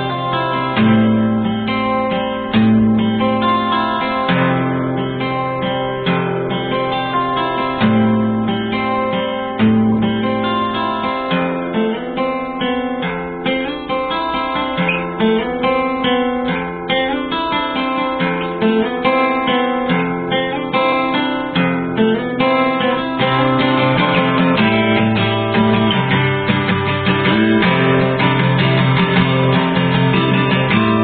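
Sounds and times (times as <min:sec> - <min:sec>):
acoustic guitar instrumental: 0:00.0 - 0:31.0.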